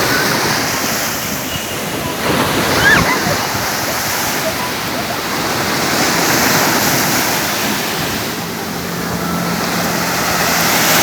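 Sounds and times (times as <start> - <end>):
sea surf washing onto shore: 0.0 - 11.0.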